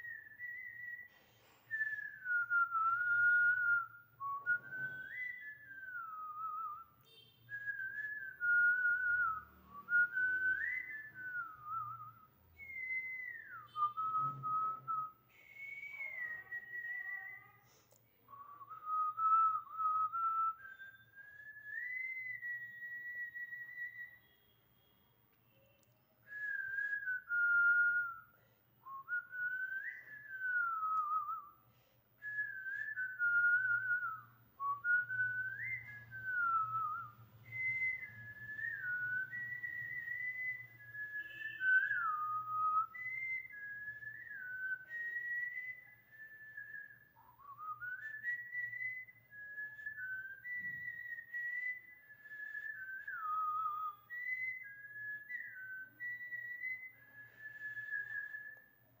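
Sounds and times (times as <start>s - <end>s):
woman whistling a tune: 0.0s - 59.0s.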